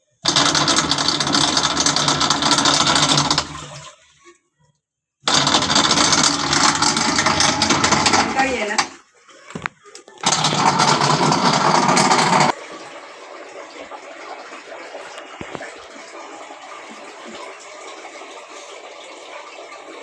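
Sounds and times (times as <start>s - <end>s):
washing machine water rushing: 0.0s - 4.3s, 5.3s - 20.0s
steady water noise: 0.1s - 4.4s, 5.3s - 20.0s.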